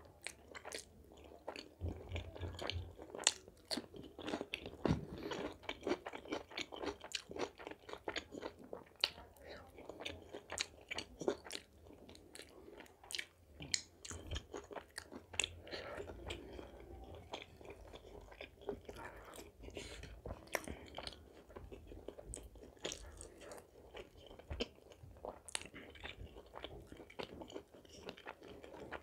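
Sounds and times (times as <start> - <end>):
person chewing food: 0.1 - 29.0.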